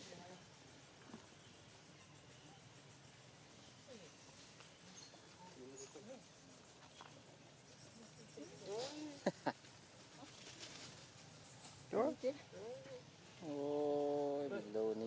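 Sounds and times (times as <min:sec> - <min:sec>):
insect chorus trilling: 0:00.0 - 0:15.0.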